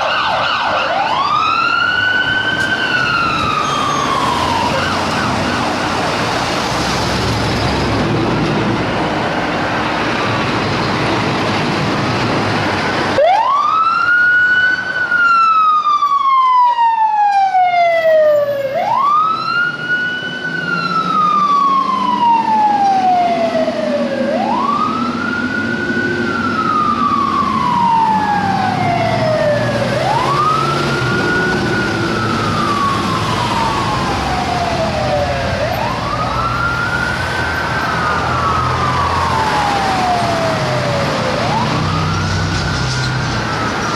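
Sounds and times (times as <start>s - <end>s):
emergency vehicle siren wailing: 0.0s - 43.9s
low rumble of engine and traffic: 0.0s - 43.9s.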